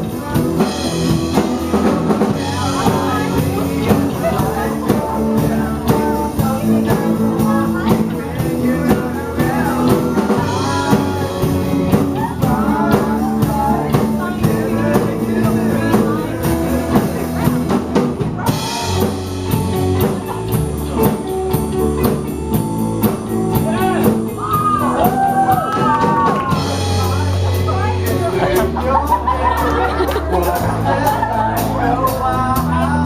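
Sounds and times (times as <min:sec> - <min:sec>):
person singing: 0:00.0 - 0:22.3, 0:23.0 - 0:33.0
drum kit steady beat: 0:00.0 - 0:33.0
electric guitar: 0:00.0 - 0:33.0.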